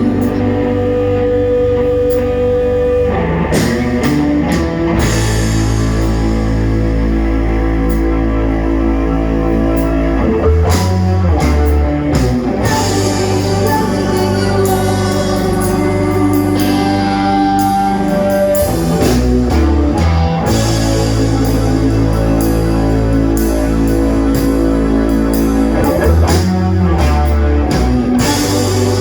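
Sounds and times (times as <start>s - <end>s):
drum kit: 0.0s - 29.0s
sustained guitar chords: 0.0s - 29.0s.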